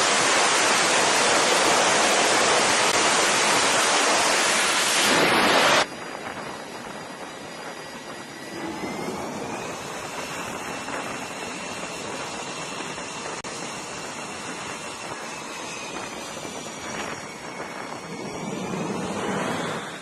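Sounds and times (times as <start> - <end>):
faint high whine: 0.0 - 20.0
jet engine running: 0.0 - 20.0.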